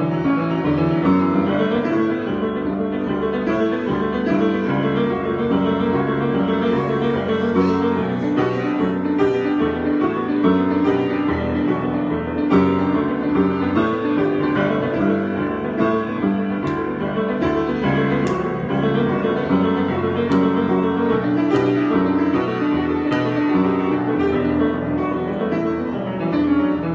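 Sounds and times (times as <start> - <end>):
solo piano improvisation: 0.0 - 26.9.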